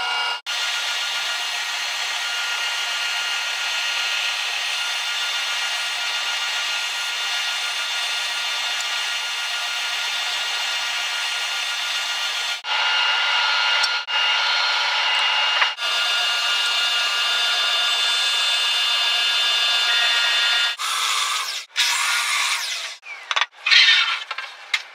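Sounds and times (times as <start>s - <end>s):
band saw cutting: 0.0s - 24.3s
drum sander whirring: 0.0s - 24.4s.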